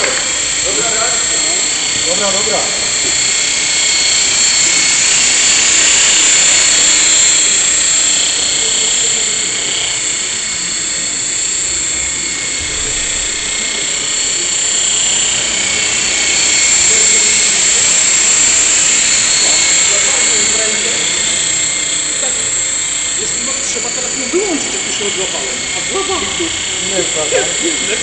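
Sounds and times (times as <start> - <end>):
rc helicopter whine: 0.0 - 28.0.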